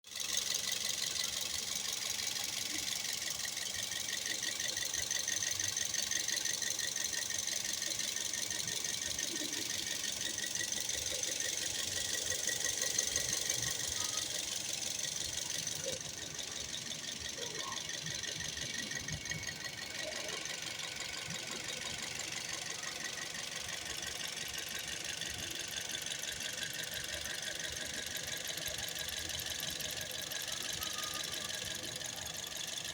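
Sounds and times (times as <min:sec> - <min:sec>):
engine running with metallic rattle: 0:00.1 - 0:32.9.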